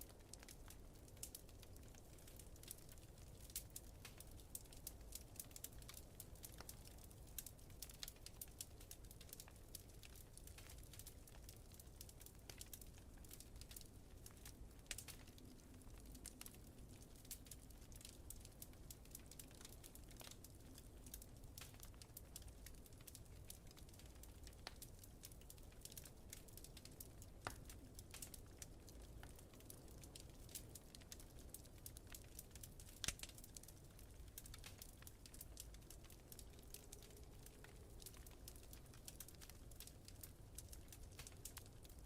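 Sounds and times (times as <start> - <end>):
faint low fire rumble: 0.0 - 42.0
wood fire crackling: 0.0 - 42.0.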